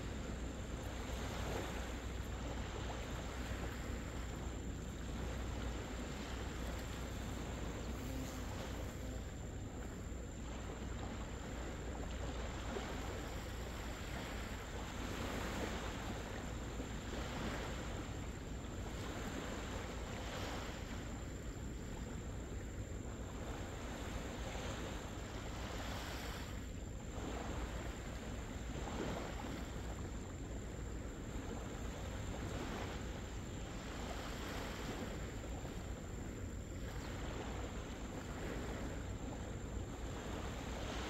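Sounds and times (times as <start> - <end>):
small waves washing onto beach: 0.0 - 41.0
wind rumble on microphone: 0.0 - 41.0.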